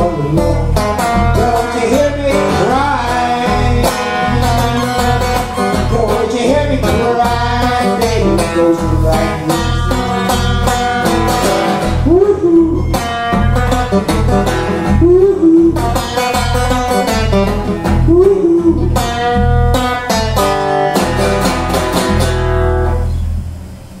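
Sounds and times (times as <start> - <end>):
acoustic guitars playing blues riff: 0.0 - 23.5.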